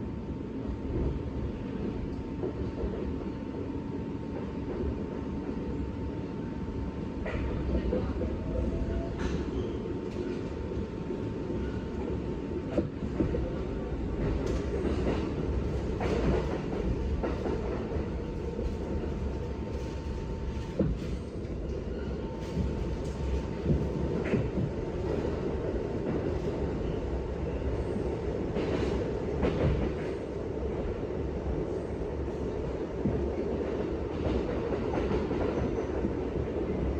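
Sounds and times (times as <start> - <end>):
subway train rumbling: 0.0 - 36.9.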